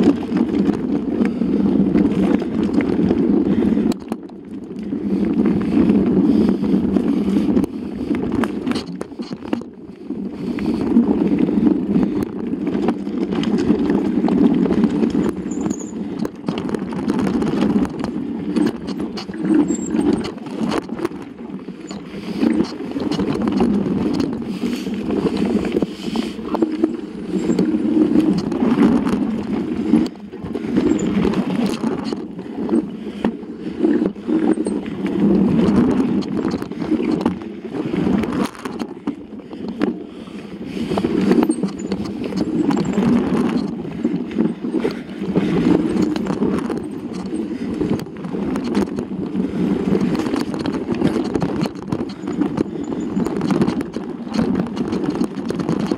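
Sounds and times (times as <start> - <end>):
bike rattling and knocking: 0.0 - 55.9
bike tyres rumbling on dirt: 0.0 - 55.9.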